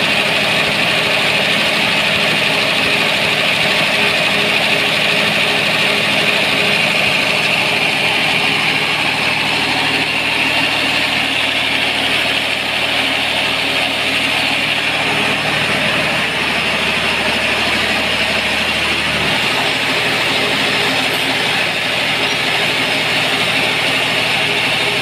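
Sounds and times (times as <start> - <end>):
diesel generator running: 0.0 - 25.0
radiator fan turning: 0.0 - 25.0.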